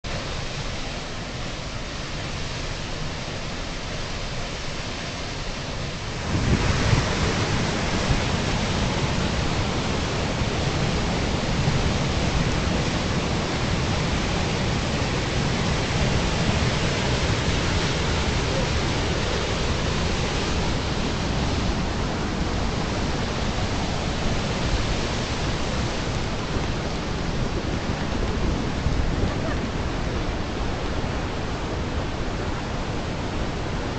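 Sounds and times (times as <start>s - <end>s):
waterfall and rapids rushing: 0.0s - 33.9s.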